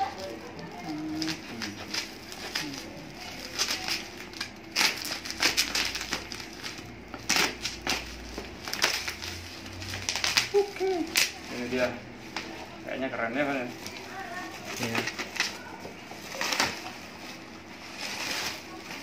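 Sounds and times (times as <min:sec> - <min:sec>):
packing tape ripping: 0:00.0 - 0:12.5, 0:13.7 - 0:19.0
plastic wrapping crinkling: 0:00.0 - 0:19.0.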